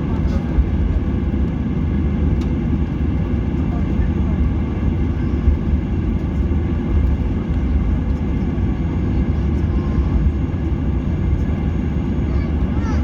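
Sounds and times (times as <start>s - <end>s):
jet engine and airflow rumble: 0.0s - 13.0s.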